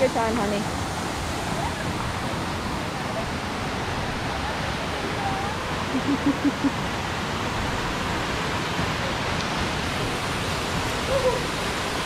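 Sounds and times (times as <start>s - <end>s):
waterfall and river rushing: 0.0s - 12.0s.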